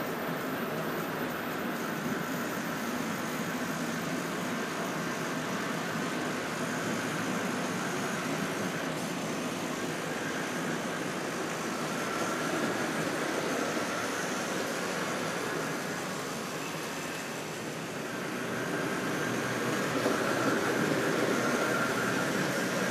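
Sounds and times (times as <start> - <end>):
model trains rolling on track: 0.0 - 22.9.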